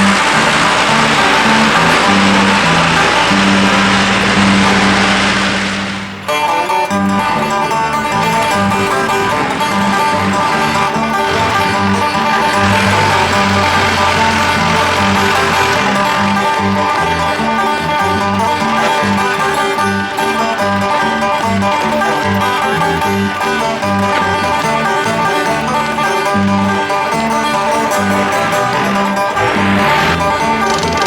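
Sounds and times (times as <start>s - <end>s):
banjo: 0.0s - 31.0s
guitar: 0.0s - 31.0s
steady bass line: 0.0s - 31.0s.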